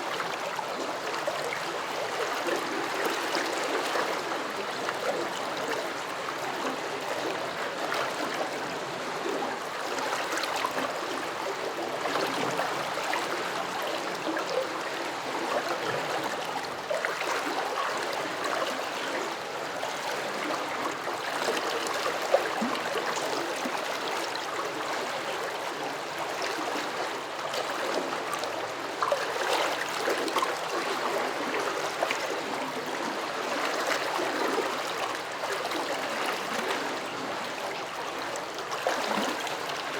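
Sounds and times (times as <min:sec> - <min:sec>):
water rippling and gurgling: 0:00.1 - 0:39.9.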